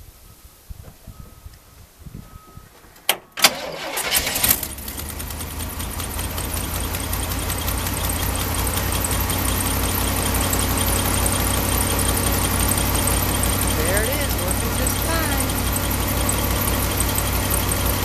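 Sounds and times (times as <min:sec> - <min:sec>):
truck engine cranking and idling: 0:02.8 - 0:18.0.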